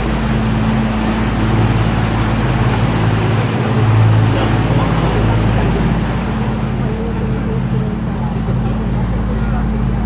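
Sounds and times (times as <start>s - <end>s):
boat motor humming: 0.0s - 10.0s
water wash: 0.0s - 10.0s.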